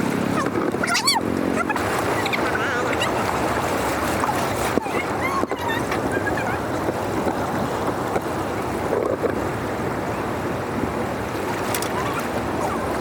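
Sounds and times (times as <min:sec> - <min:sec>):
water rushing through channel: 0:00.0 - 0:13.0.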